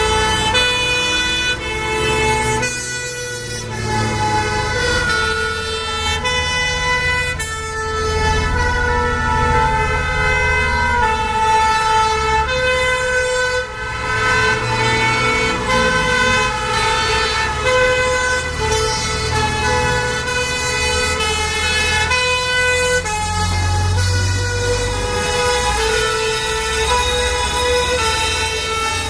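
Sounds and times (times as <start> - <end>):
truck engines rumbling: 0.0 - 29.0
two-tone sirens: 0.0 - 29.0.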